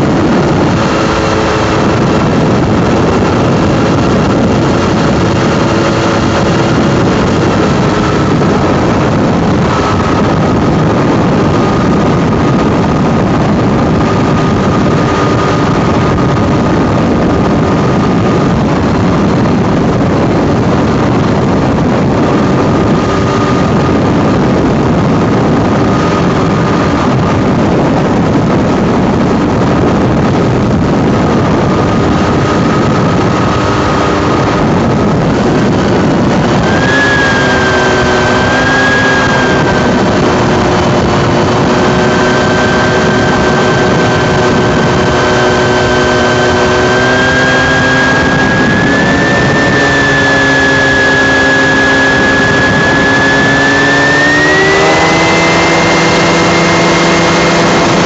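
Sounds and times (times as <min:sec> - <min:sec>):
light aircraft engine running: 0:00.0 - 0:58.0
loud wind rush: 0:00.0 - 0:58.0.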